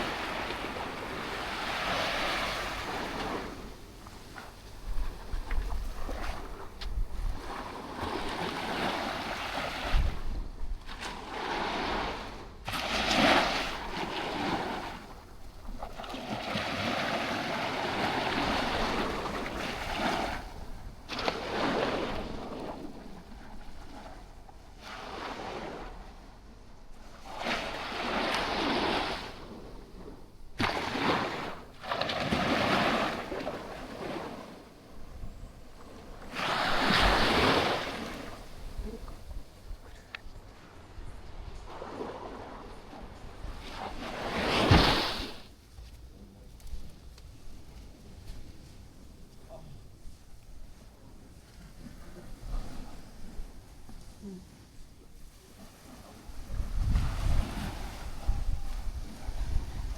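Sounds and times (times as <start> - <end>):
waves washing on sandy beach: 0.0 - 59.9.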